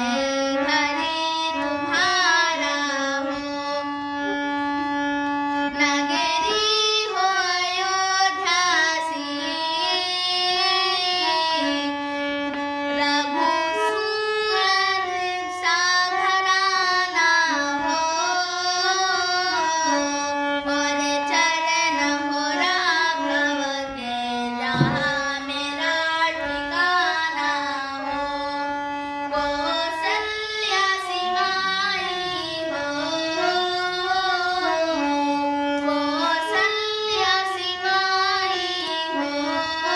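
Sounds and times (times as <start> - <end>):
person singing devotional song: 0.0 - 39.9.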